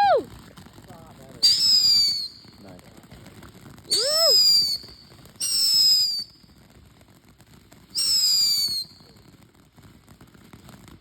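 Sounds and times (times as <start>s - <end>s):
whistling fireworks: 0.0s - 11.0s.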